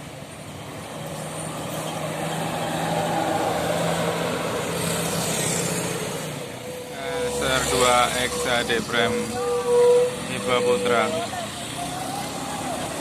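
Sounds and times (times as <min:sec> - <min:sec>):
bus driving past: 0:00.0 - 0:13.0.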